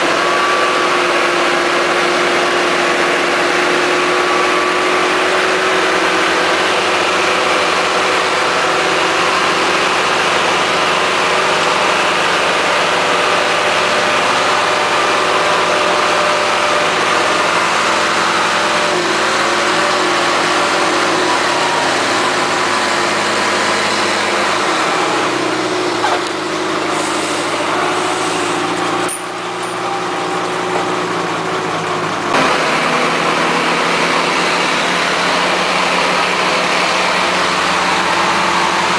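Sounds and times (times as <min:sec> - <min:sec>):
tractor engine running: 0:00.0 - 0:38.9
vehicle engine running: 0:00.0 - 0:38.9.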